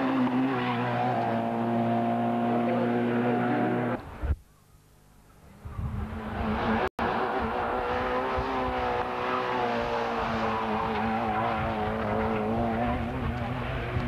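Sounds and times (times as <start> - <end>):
rally car engine at high revs: 0.0 - 4.0, 6.0 - 14.0.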